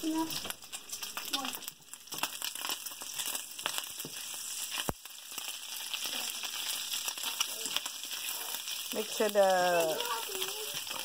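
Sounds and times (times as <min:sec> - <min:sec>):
bacon sizzling in a skillet: 0:00.0 - 0:11.0.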